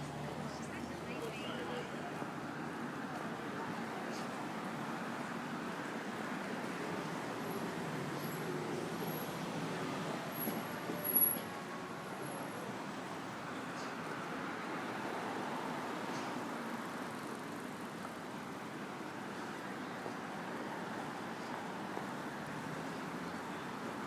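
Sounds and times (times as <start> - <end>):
passing road vehicles: 0.0 - 24.0.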